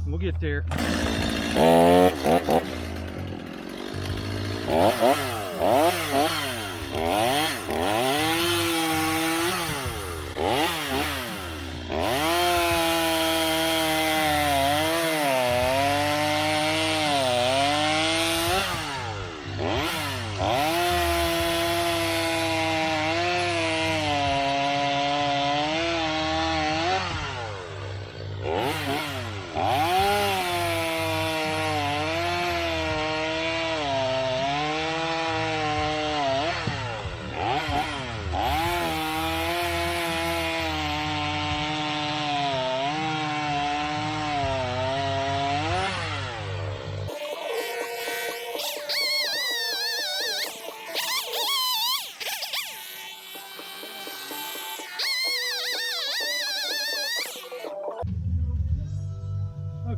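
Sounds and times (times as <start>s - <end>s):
chainsaw cutting wood: 0.7s - 58.1s.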